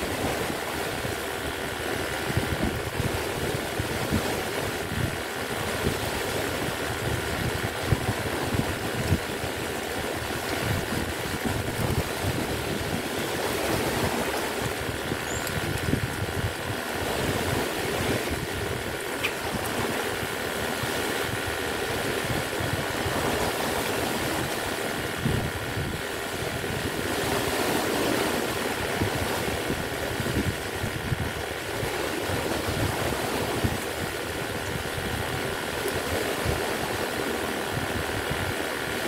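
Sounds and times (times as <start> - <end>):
waves on rough water: 0.0 - 39.0
wind buffeting microphone: 0.0 - 39.0.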